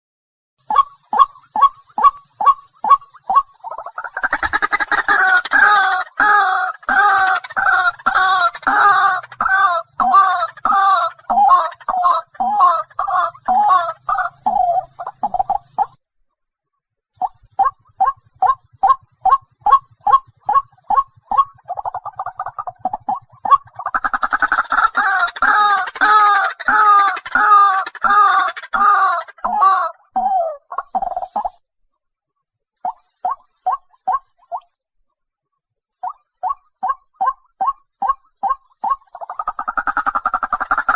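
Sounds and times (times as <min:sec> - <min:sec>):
waterhen calling: 0:00.7 - 0:16.0, 0:17.2 - 0:31.5, 0:32.8 - 0:34.7, 0:36.0 - 0:40.9.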